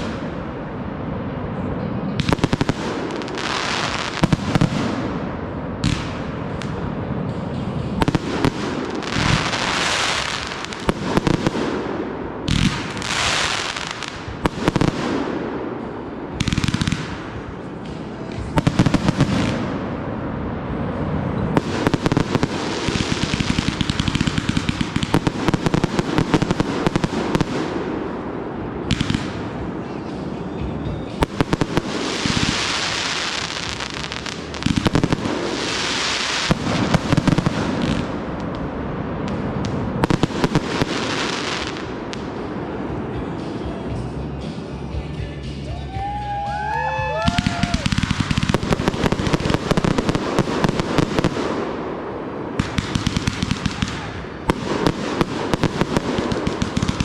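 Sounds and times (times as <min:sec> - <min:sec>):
fireworks hissing crackle: 0:00.0 - 0:44.7, 0:47.1 - 0:57.0
fireworks sharp reports: 0:00.0 - 0:44.8, 0:46.4 - 0:57.0.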